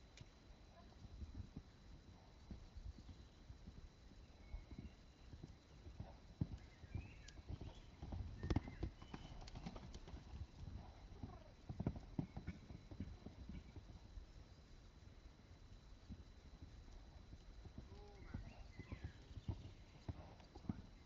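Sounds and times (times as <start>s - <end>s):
horse hooves thudding on sand: 1.0s - 14.0s, 16.0s - 21.0s.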